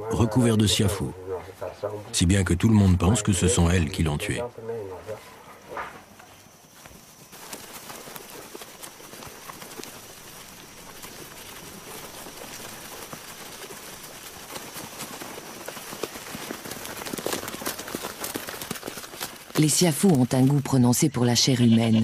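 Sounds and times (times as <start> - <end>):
ants crawling through dry leaves: 3.1 - 22.0.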